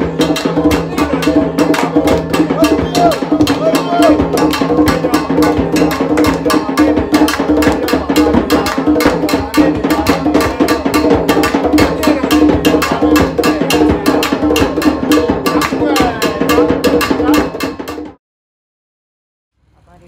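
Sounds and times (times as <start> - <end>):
music with fast percussion beat: 0.0 - 18.2.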